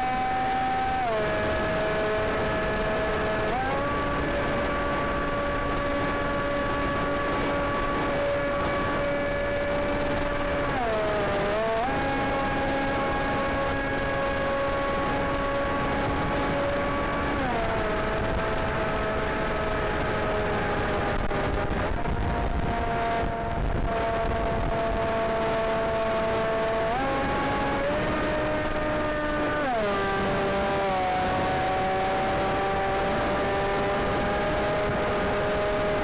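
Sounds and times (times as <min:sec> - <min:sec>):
electric motor and propeller whining: 0:00.0 - 0:36.0.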